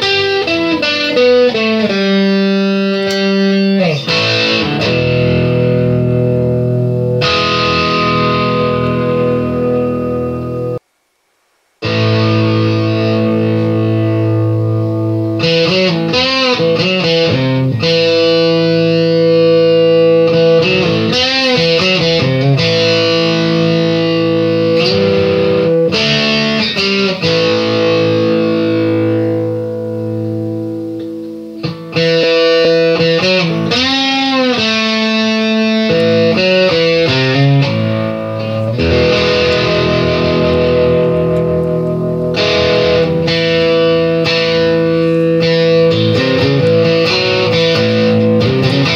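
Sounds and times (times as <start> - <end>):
electric guitar with effects: 0.0 - 10.8, 11.8 - 48.9.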